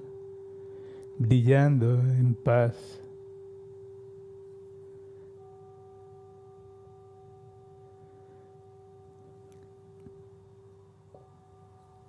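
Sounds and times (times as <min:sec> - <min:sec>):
soft meditation music tones: 0:00.0 - 0:12.0.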